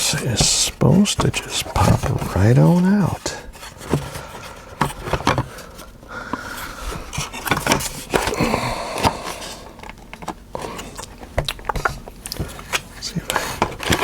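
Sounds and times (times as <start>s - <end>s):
plastic scraping: 0.0s - 14.0s.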